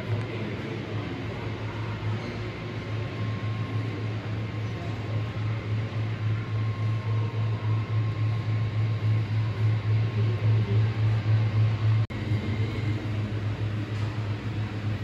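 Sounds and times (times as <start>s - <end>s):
faint steady whine: 0.0s - 15.0s
model train pulsing rumble: 0.0s - 15.0s.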